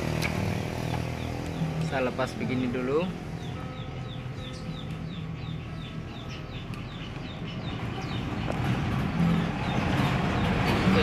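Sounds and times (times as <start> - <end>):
bird chirping: 0.2 - 11.0.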